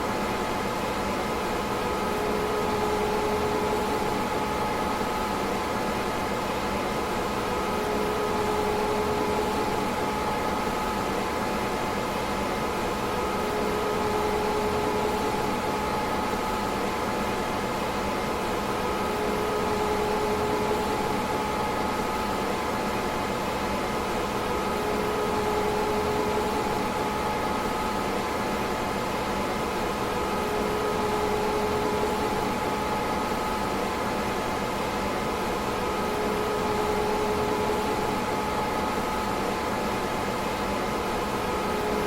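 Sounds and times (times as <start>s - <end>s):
constant hum: 0.0s - 42.0s
cooling fans whirring: 0.0s - 42.0s.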